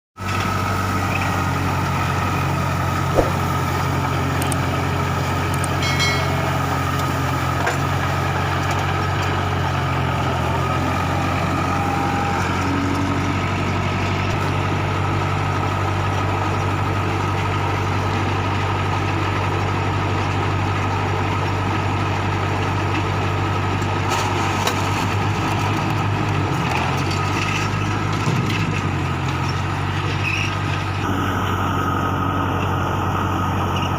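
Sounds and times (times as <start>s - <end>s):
tractor diesel engine running: 0.2s - 33.9s.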